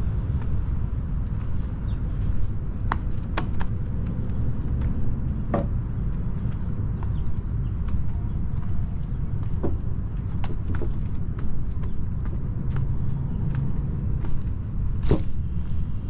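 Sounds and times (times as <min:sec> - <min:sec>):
footsteps walking: 0:00.0 - 0:15.4
loud low rumble: 0:00.0 - 0:16.0.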